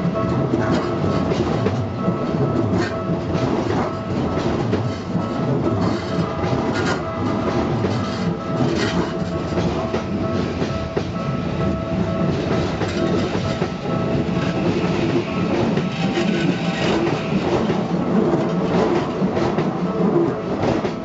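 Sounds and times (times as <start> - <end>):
electric train rolling past: 0.0 - 21.0.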